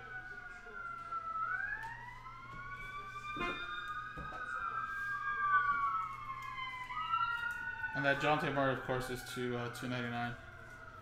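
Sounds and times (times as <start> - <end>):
emergency siren wailing: 0.0 - 11.0.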